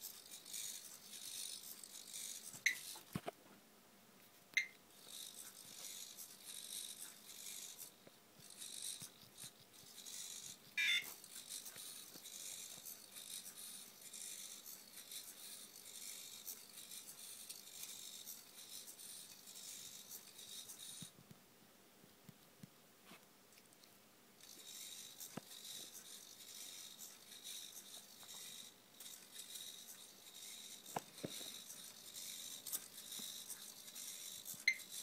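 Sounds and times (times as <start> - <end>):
robot servos whirring: 0.0 - 3.1, 4.6 - 21.1, 24.4 - 35.0.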